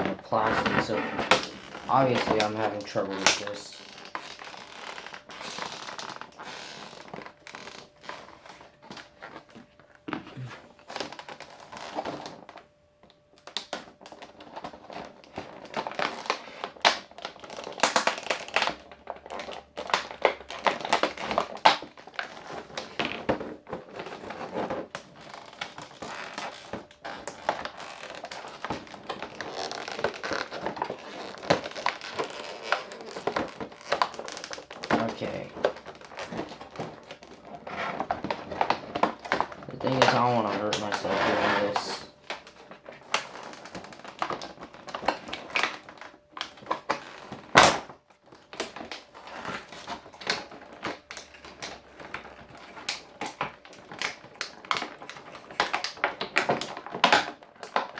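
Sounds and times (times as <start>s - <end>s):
scissors cutting plastic packaging: 0.0s - 8.3s, 13.4s - 57.9s
plastic crinkling and crackling: 0.0s - 57.9s.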